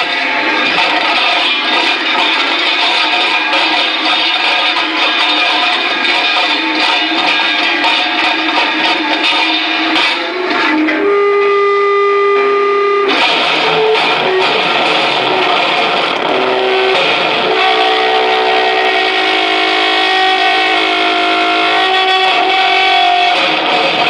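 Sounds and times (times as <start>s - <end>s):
distorted amplified noise: 0.0s - 24.0s
held drone tones: 0.0s - 24.0s.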